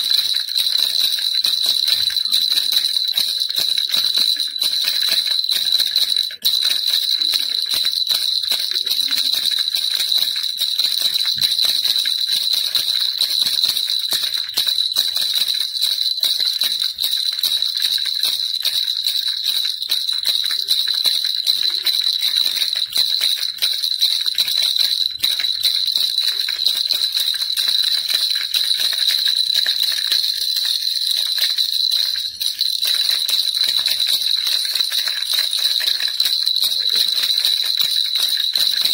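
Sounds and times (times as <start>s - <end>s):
baby rattle jingling: 0.0s - 38.9s.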